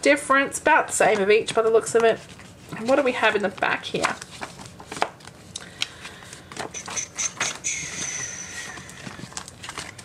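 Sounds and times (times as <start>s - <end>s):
paper pages rustling: 1.1s - 10.0s.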